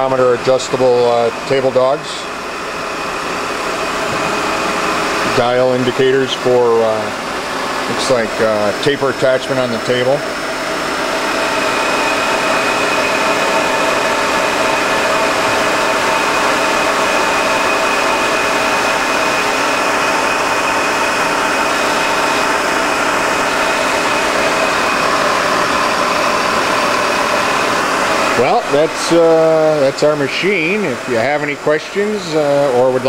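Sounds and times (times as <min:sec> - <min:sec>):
grinding machine hum: 0:00.0 - 0:33.0
whining motor tones: 0:00.0 - 0:33.0.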